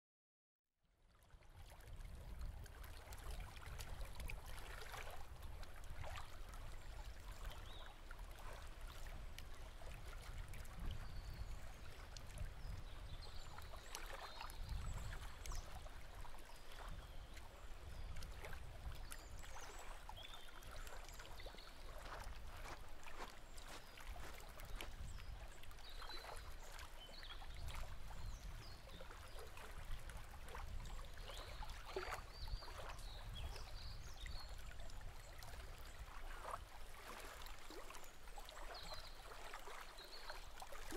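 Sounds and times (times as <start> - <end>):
waves lapping on beach: 2.0 - 40.9.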